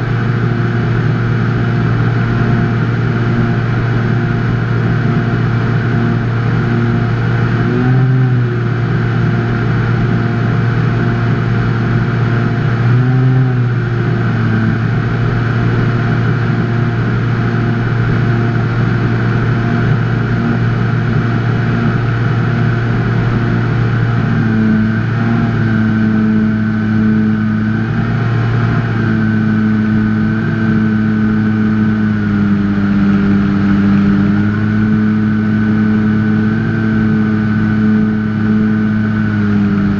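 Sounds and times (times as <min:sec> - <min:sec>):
electric motor and propeller hum: 0:00.0 - 0:39.9.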